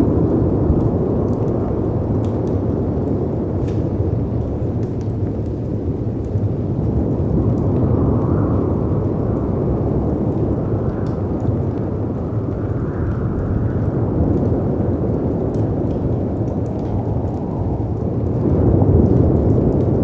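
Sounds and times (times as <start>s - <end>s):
fireplace crackling: 0.0s - 20.0s
wind rumbling: 0.0s - 20.0s.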